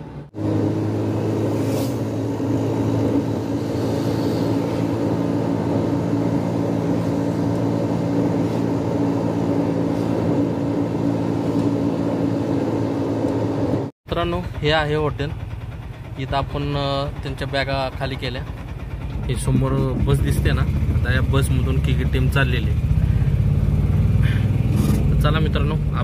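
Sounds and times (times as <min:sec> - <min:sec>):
diesel engine running: 0:00.0 - 0:26.0
road noise: 0:00.0 - 0:26.0.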